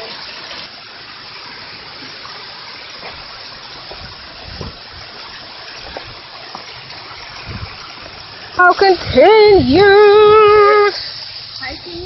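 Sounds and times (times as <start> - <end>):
water rushing over waterfall: 0.0 - 12.0.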